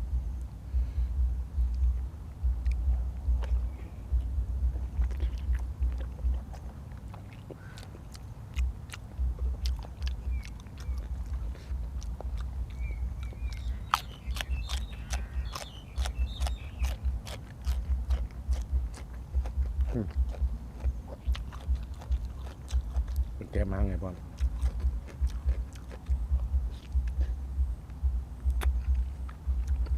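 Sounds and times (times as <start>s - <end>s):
person chewing with mouth clicks: 1.6s - 29.9s.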